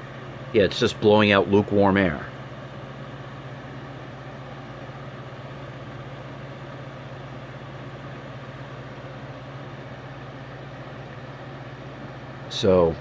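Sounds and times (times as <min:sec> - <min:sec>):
dehumidifier running: 0:00.0 - 0:13.0.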